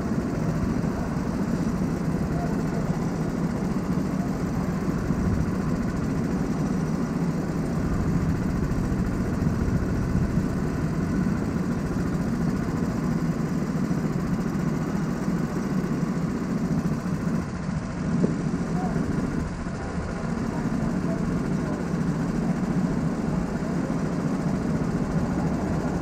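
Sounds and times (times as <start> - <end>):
go-kart engines running: 0.0 - 26.0.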